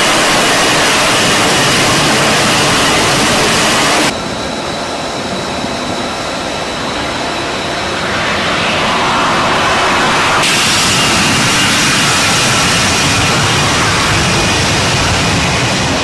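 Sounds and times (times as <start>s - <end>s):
faint high whine: 0.0s - 16.0s
jet engine rush: 0.0s - 16.0s.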